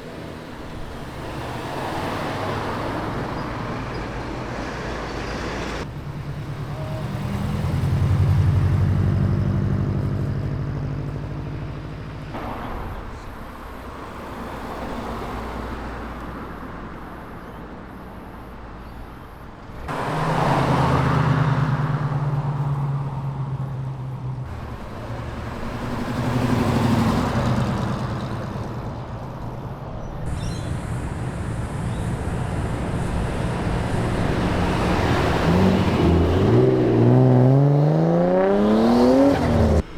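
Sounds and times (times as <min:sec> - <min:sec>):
car engines accelerating past: 0:00.1 - 0:13.0, 0:19.8 - 0:39.9.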